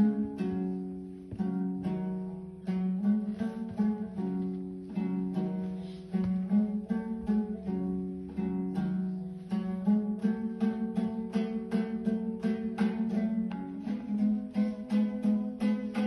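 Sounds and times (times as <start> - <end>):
strummed two-stringed lute: 0.0 - 16.0.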